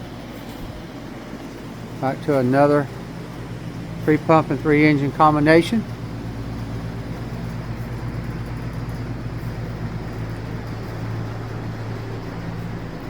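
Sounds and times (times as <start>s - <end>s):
hiss of running equipment: 0.0s - 13.0s
low mechanical hum: 0.0s - 13.0s.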